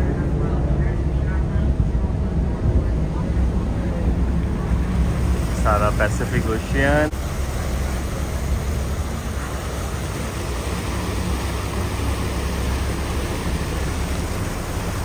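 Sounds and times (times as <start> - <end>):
boat engines droning: 0.0 - 15.0
wind and water rushing: 0.0 - 15.0.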